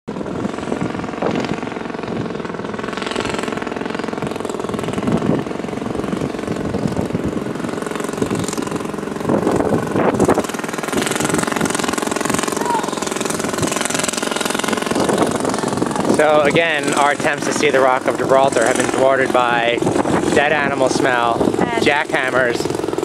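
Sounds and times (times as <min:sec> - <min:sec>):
jackhammer rattling: 0:00.1 - 0:23.0.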